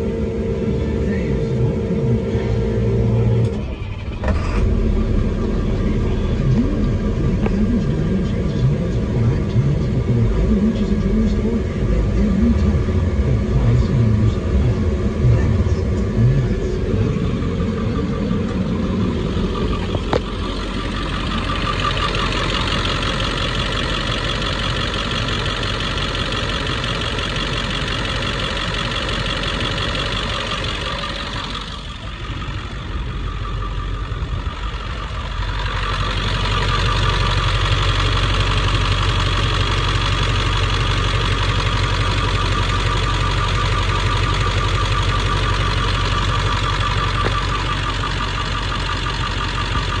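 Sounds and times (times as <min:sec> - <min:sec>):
diesel truck engine idling: 0:00.0 - 0:50.0.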